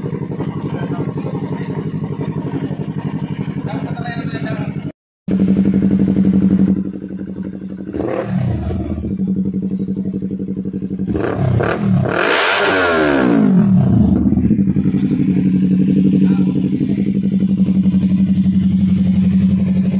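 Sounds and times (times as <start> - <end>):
motorcycle engine idling and revving: 0.0 - 19.9.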